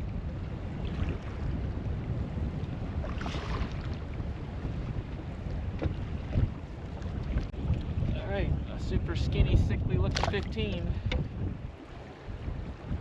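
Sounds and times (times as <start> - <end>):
water moving around a kayak: 0.0 - 13.0
wind buffeting microphone: 0.0 - 13.0.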